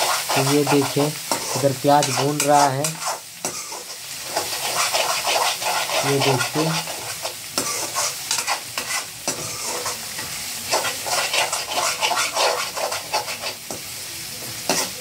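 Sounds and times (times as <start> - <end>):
spoon scraping metal pan: 0.0 - 13.8, 14.6 - 15.0
onions sizzling in oil: 0.0 - 15.0.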